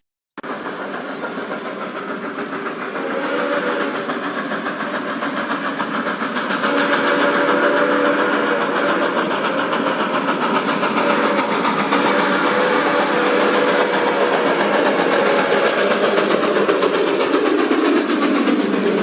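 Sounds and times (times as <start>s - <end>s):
train running noise: 0.4s - 19.0s.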